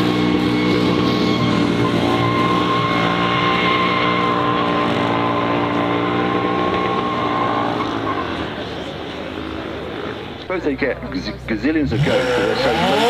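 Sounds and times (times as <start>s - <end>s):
racing car engine running: 0.0s - 13.0s.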